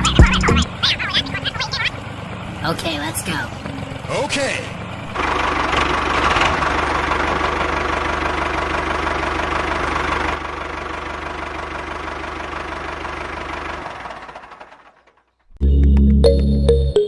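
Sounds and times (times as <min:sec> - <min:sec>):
engine idling: 0:00.0 - 0:15.5.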